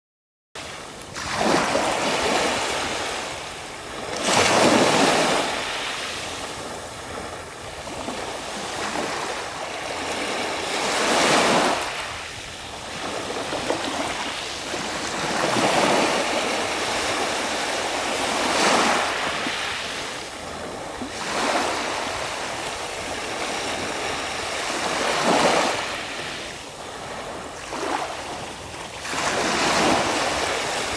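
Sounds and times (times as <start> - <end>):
waves lapping around boulders: 0.6 - 30.9.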